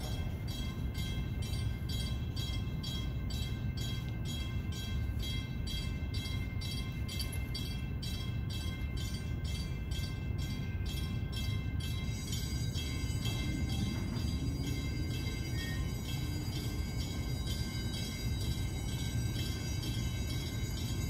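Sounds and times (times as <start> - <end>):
constant low rumble: 0.0 - 21.0.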